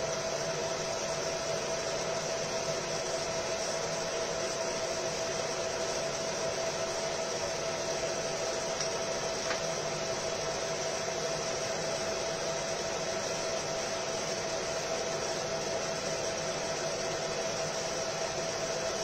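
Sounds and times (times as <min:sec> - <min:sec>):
laser marking machine whirring: 0:00.0 - 0:19.0.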